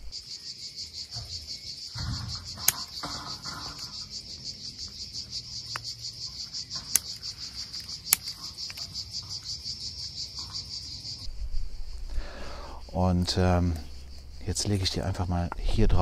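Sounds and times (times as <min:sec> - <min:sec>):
insect chorus pulsing: 0:00.0 - 0:16.0.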